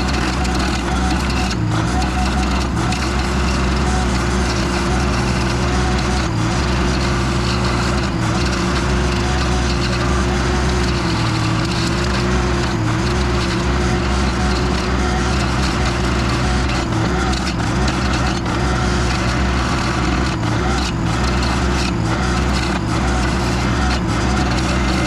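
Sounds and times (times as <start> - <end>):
machine engine running: 0.0 - 25.0
stump grinder chewing wood: 0.0 - 25.0.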